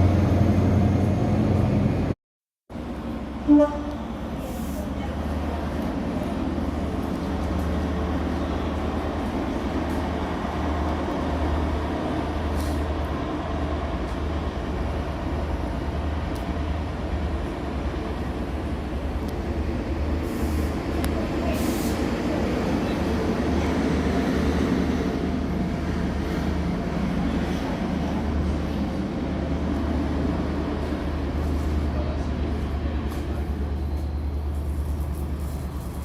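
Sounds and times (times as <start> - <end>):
train rumbling on rails: 0.0 - 36.0.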